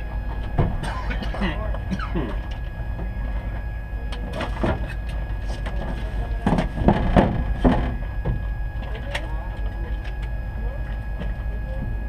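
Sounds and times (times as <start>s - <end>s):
muffled engine bursts: 0.0s - 12.0s
race car engine rumble: 0.0s - 12.0s
thin whine: 0.0s - 12.0s.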